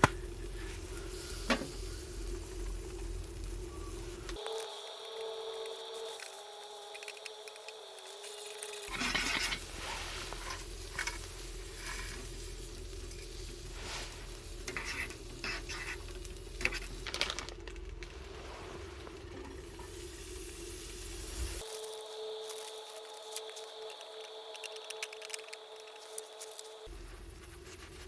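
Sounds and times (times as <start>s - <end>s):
fire crackles and clicks: 0.0s - 27.8s
sizzling over wood fire: 0.0s - 28.0s.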